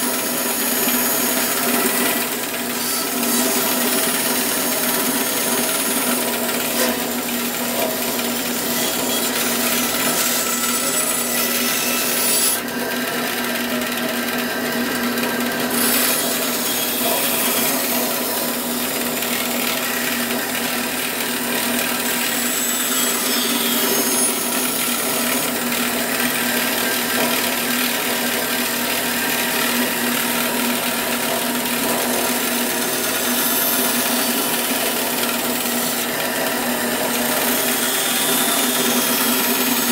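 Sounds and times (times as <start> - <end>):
bandsaw cutting: 0.0 - 39.9.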